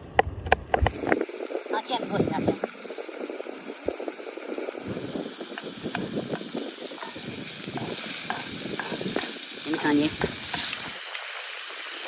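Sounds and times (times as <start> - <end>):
chicken sizzling: 0.9 - 12.0.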